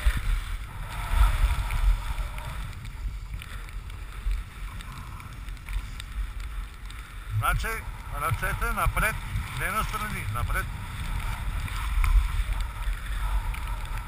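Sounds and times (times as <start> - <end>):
skis sliding on snow: 0.0 - 14.0
wind buffeting microphone: 0.0 - 14.0.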